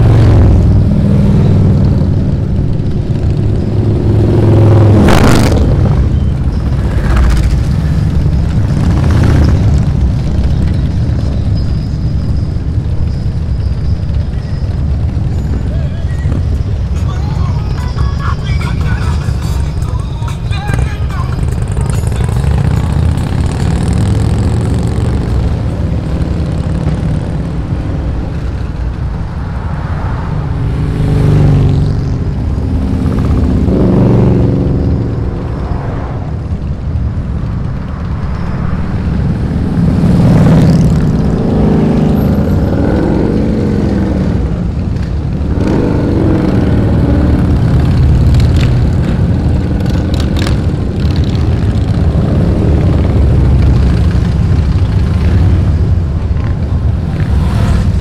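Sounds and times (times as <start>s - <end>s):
motorcycle revving and passing by: 0.0s - 16.9s, 20.7s - 58.0s
motorcycle engines droning: 0.0s - 58.0s.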